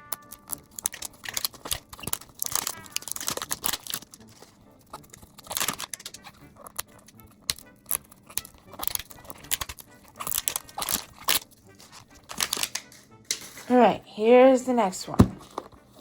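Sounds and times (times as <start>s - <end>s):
packaging crinkling and tearing: 0.0s - 13.8s.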